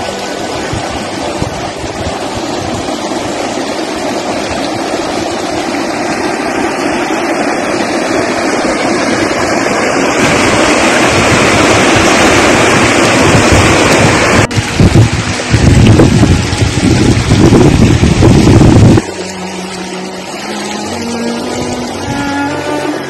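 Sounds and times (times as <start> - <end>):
floodwater rushing over rapids: 0.0 - 23.0.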